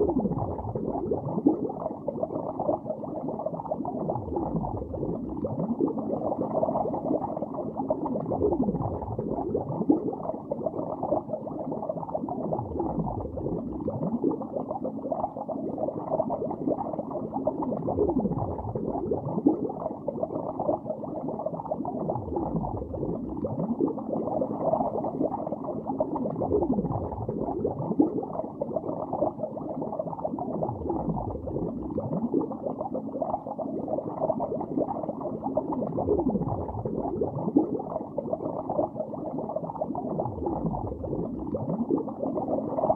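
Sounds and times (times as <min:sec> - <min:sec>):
underwater bubbling: 0:00.0 - 0:42.9.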